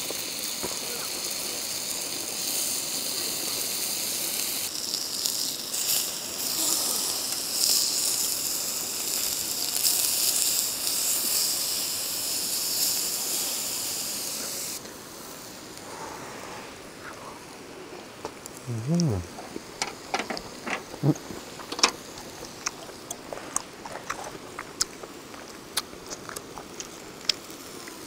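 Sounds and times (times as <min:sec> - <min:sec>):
beef sizzling on a grill: 0:00.0 - 0:16.2, 0:18.2 - 0:28.0.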